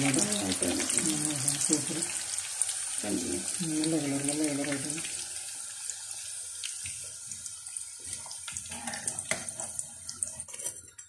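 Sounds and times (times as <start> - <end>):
oil sizzling with crackling pops: 0.0 - 11.0.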